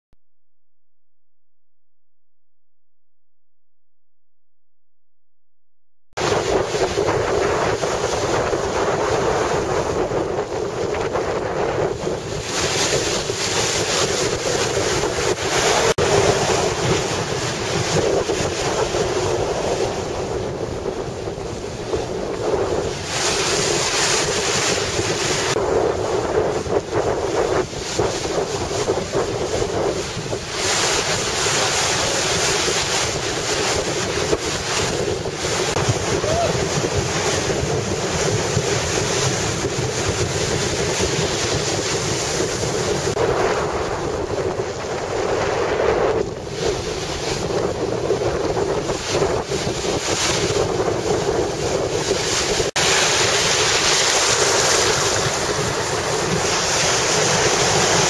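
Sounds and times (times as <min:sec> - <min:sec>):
ocean surf breaking: 0:06.2 - 0:58.0
wind buffeting microphone: 0:06.2 - 0:58.0.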